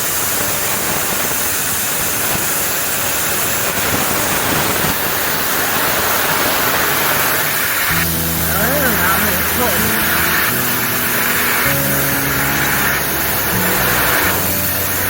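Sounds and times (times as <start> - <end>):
workshop rushing noise: 2.8 - 15.0.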